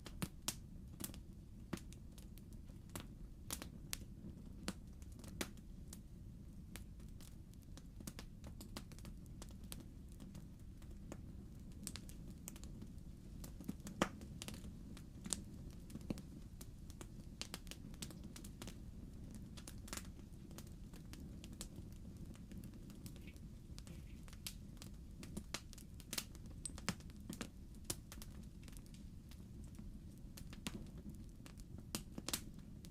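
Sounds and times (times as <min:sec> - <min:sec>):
low rumble of fire: 0:00.0 - 0:32.9
wood fire crackling and popping: 0:00.0 - 0:32.9.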